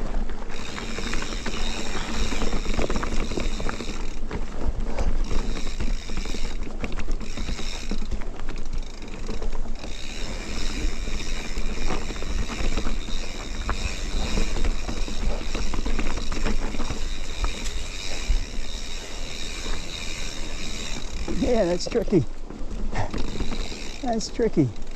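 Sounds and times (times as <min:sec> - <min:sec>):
bike clicking and rattling: 0:00.0 - 0:24.9
tyres crunching on stones: 0:00.0 - 0:24.9.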